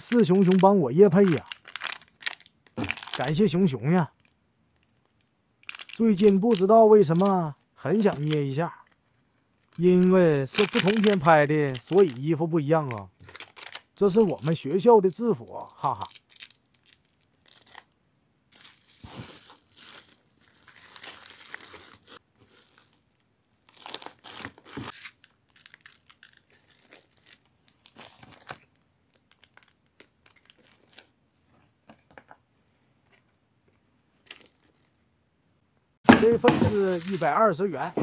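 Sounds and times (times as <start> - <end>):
packaging crinkling and tearing: 0.0 - 3.5, 5.6 - 14.8, 15.5 - 31.2, 34.2 - 34.9, 36.1 - 38.0.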